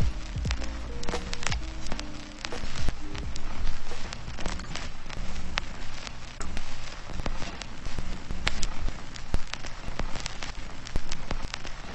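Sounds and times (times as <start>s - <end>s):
sharp crackles and ticks: 0.0s - 11.9s
steady hiss: 0.0s - 11.9s.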